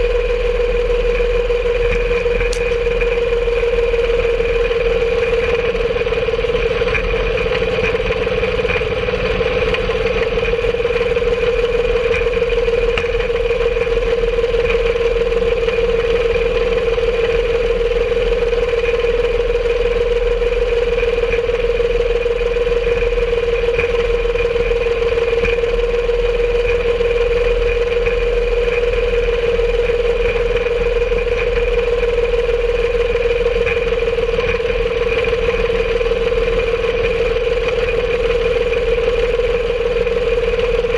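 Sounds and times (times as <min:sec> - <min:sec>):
small engine droning: 0:00.0 - 0:40.9.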